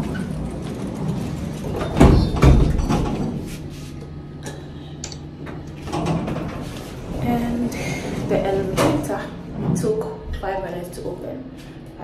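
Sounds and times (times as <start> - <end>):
elevator doors sliding: 0.0 - 12.0
steady low hum: 0.0 - 12.0.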